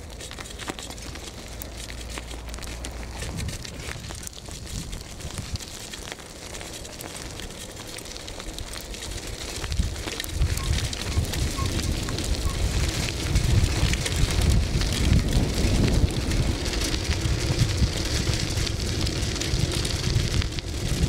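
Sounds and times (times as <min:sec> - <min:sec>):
tyres crunching on gravel: 0:00.0 - 0:21.0
wind rumbling on microphone: 0:00.0 - 0:21.0.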